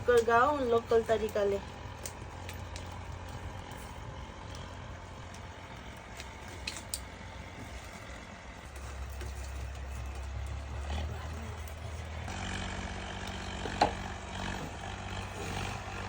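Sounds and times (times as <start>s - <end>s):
fire crackles: 0.0s - 16.0s
open fire rumbling: 0.0s - 16.0s.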